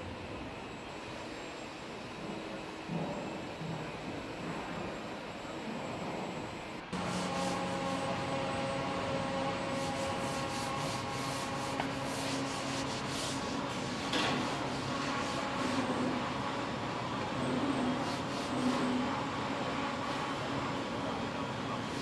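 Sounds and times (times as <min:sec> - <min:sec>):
workshop hum: 0:00.0 - 0:22.0.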